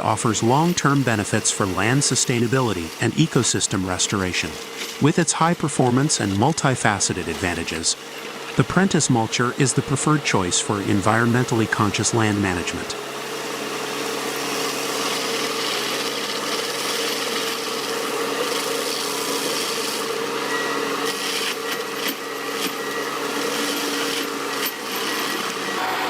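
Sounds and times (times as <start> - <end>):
machine grinding wood: 0.0 - 26.0.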